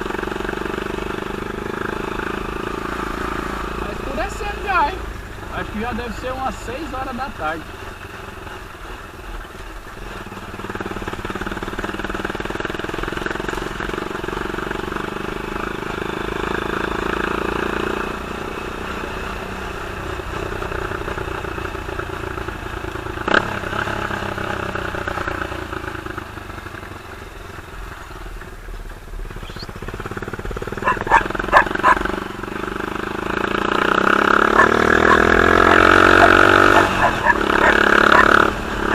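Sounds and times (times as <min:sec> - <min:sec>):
buggy engine running: 0:00.0 - 0:38.9.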